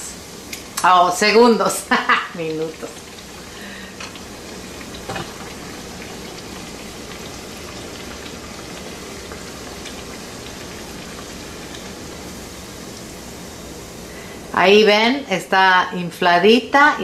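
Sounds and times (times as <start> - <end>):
dough deep-frying in oil: 0.0 - 14.4.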